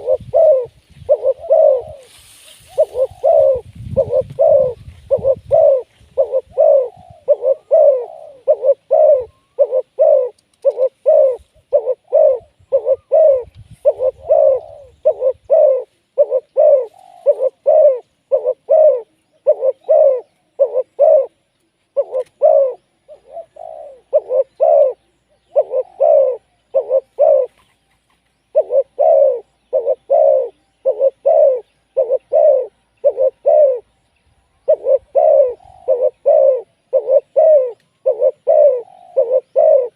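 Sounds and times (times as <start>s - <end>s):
dove cooing: 0.0s - 34.0s, 34.6s - 39.9s.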